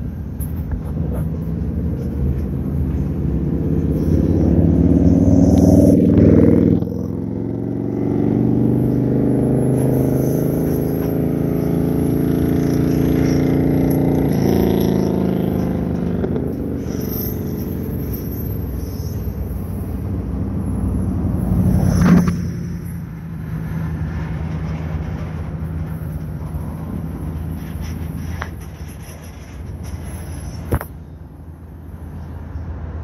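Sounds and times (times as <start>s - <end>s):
train wheels rumbling on rail: 0.0s - 8.1s, 8.7s - 33.0s.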